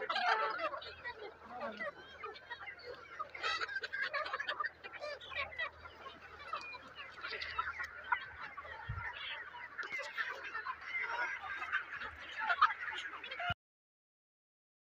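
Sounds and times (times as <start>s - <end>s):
chickens clucking: 0.0s - 13.6s.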